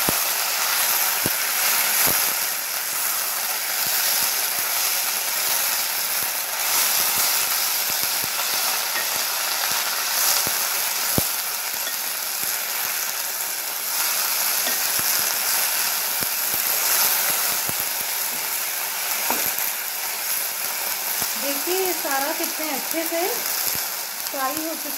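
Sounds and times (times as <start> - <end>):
leaves sizzling in hot pan: 0.0 - 24.9.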